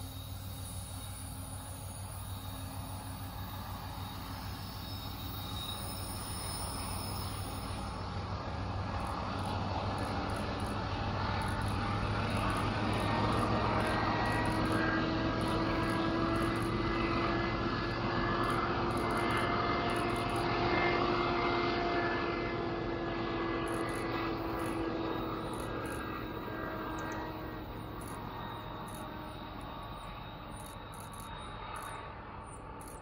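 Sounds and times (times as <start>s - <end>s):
diesel locomotive engine drone: 0.0s - 33.0s.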